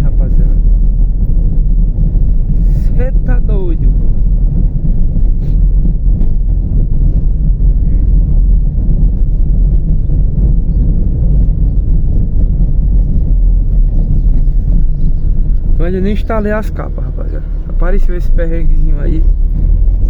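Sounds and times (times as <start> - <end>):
tyres rumbling on dirt road: 0.0 - 20.0.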